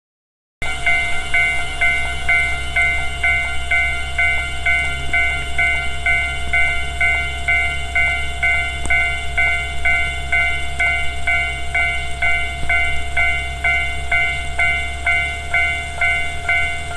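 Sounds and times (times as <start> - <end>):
level crossing warning bell: 0.6 - 16.9.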